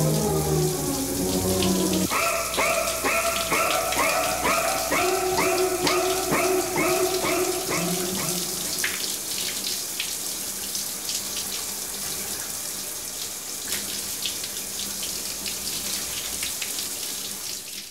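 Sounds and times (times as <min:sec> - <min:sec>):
drips and splashes: 0:00.0 - 0:17.9
water running: 0:00.0 - 0:17.9.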